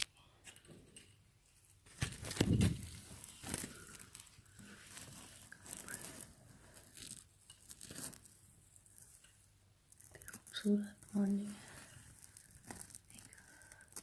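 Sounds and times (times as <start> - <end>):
rustling and crinkling handling: 1.0 - 14.0.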